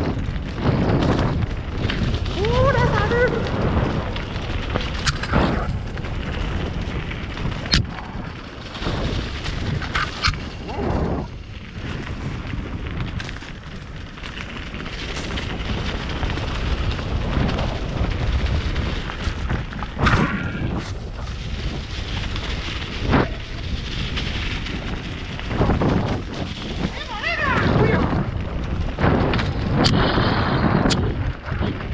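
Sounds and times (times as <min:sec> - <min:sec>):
bike knocking over bumps: 0:00.0 - 0:31.9
tyre and trail rumble: 0:00.0 - 0:31.9
wind buffeting microphone: 0:00.0 - 0:31.9.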